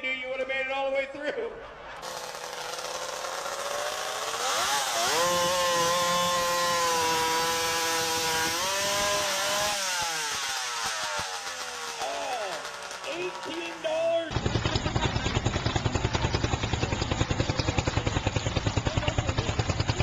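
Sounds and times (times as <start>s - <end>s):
chainsaw engine revving: 2.0s - 20.0s.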